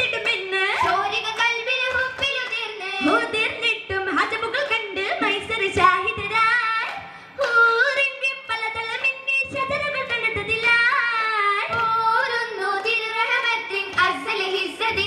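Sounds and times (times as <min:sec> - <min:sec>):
girls singing: 0:00.0 - 0:15.0.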